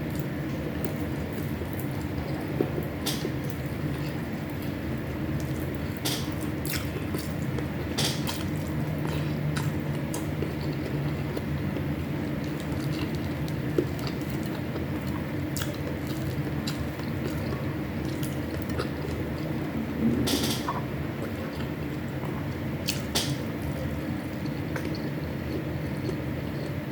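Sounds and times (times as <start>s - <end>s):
low background hum: 0.0s - 26.9s
chewing: 0.1s - 4.8s, 5.4s - 19.6s, 20.7s - 26.8s.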